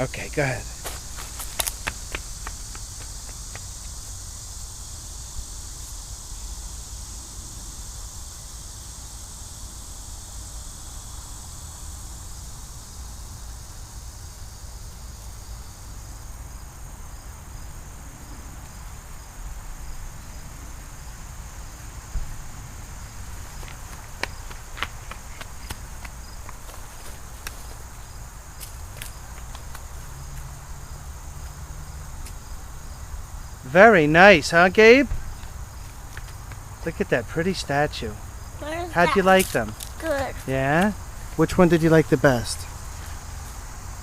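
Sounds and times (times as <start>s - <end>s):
chorus of insects: 0.0s - 44.0s
pulsing insect trill: 0.0s - 44.0s.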